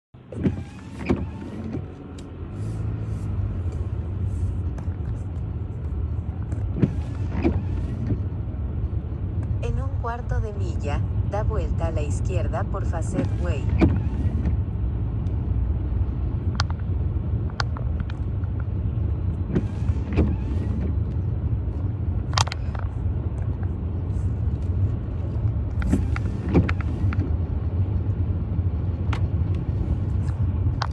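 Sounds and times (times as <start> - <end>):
car road and engine rumble: 0.2 - 30.9.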